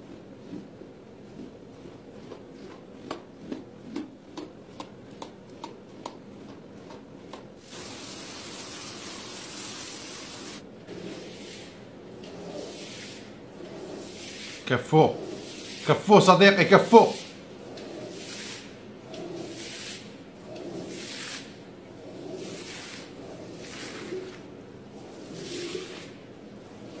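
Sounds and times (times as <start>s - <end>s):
broom scrubbing soapy rug: 0.0s - 4.8s, 7.6s - 27.0s.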